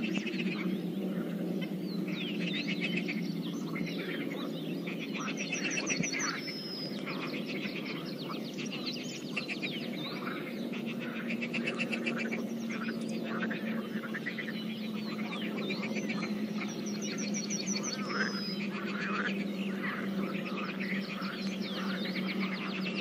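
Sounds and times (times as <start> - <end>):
birds chirping: 0.0 - 23.0
frogs trilling and croaking: 0.0 - 23.0
steady low hum: 0.0 - 23.0.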